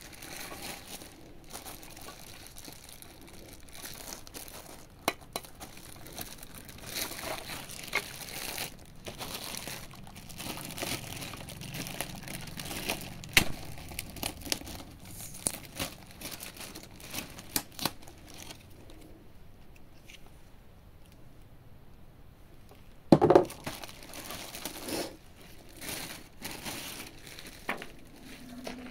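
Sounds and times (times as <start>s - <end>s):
plastic wrapping crinkling: 0.0s - 19.2s, 23.3s - 28.9s.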